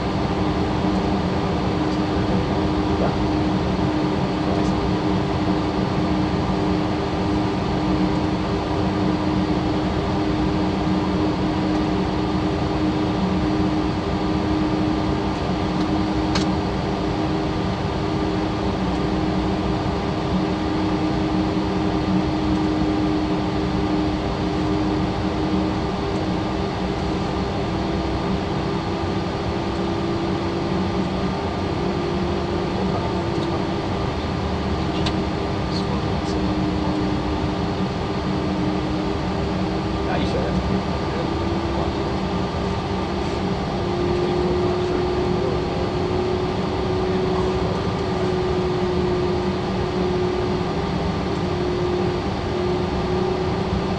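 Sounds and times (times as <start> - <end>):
engine and systems hum: 0.0 - 53.9
jet cockpit airflow rush: 0.0 - 53.9.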